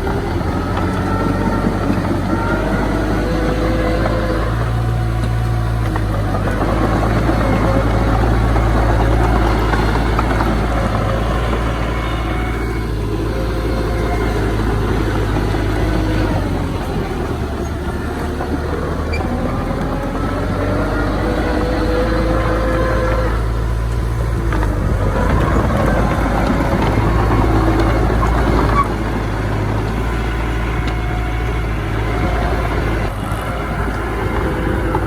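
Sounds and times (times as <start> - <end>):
heavy machinery engine droning: 0.0 - 35.0.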